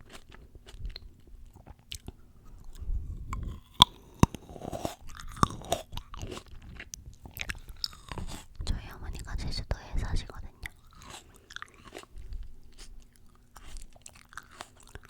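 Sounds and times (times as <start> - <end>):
chewing fruit crunching: 0.0 - 9.4, 10.2 - 15.0.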